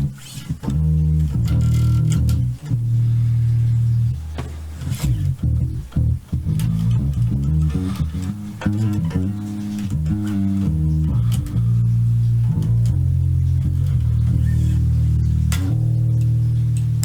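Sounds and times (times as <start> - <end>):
electric bass notes: 0.0 - 17.0.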